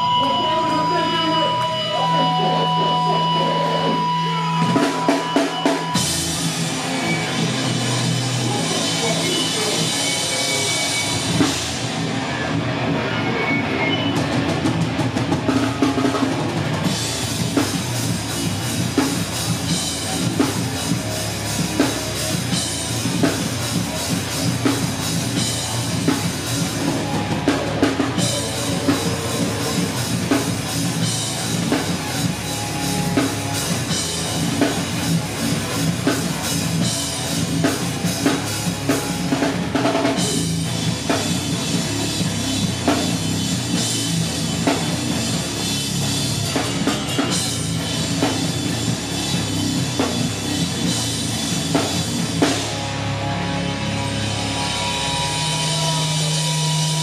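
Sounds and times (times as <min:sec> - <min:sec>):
drum kit beating: 0:00.0 - 0:12.3, 0:14.0 - 0:57.0
live rock band playing: 0:00.0 - 0:57.0.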